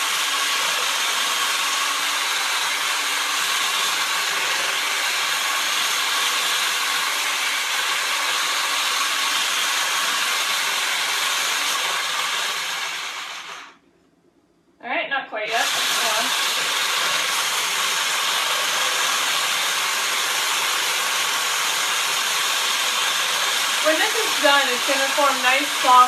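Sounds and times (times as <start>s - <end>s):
electric mixer whisking in bowl: 0.0s - 13.7s, 15.4s - 26.0s.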